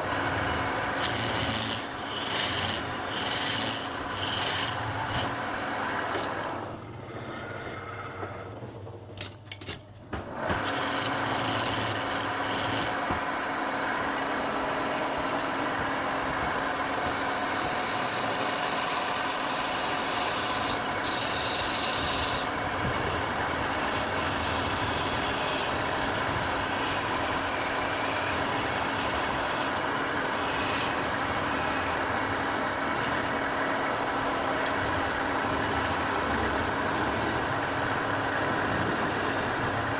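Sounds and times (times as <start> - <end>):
turning tool cutting wood: 0.0 - 6.5, 10.5 - 13.2, 16.9 - 39.9
lathe motor hum: 0.0 - 8.9, 10.3 - 39.9.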